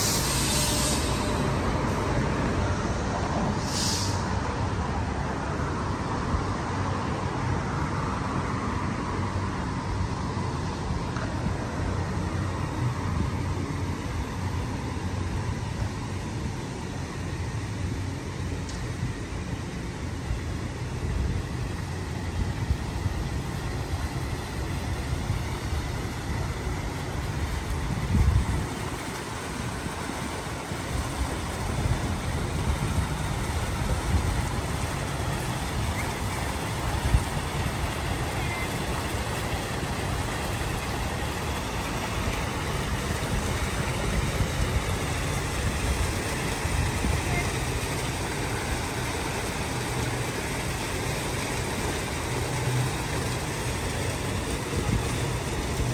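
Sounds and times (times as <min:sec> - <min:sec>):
fountain water splashing: 0:00.0 - 0:55.9
road traffic rumble: 0:00.0 - 0:55.9.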